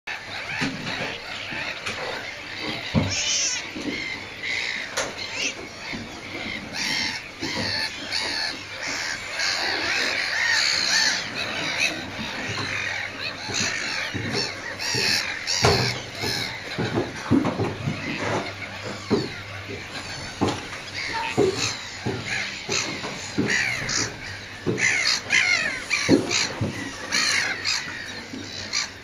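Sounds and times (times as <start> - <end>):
gulls calling: 0.1 - 29.0.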